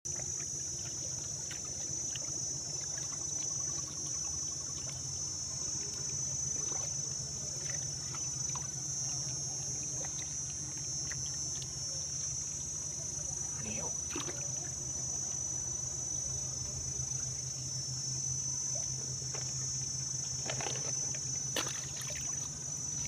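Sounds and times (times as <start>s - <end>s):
high-pitched insect chorus: 0.1s - 23.0s
low steady hum: 0.1s - 23.0s.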